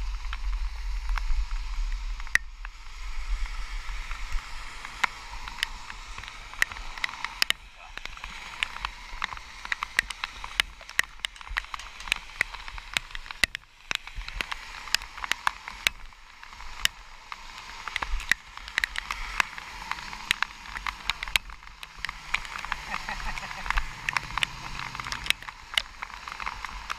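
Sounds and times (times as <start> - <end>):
rain hiss: 0.0 - 26.9
raindrops ticking on camera: 0.0 - 26.9.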